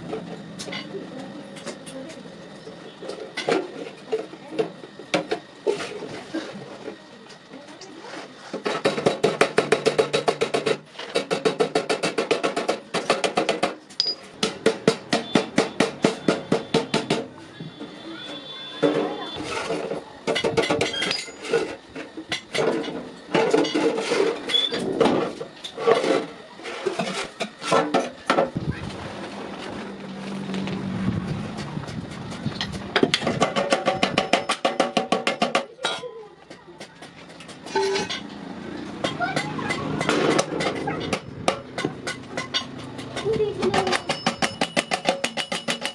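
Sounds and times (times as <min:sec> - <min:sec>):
steady mechanical hum: 0:00.0 - 0:45.9.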